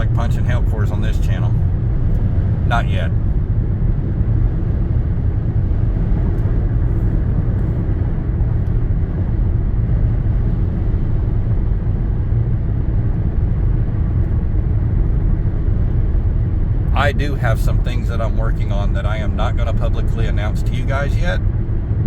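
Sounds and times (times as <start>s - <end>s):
car cabin road and engine rumble: 0.0s - 22.0s.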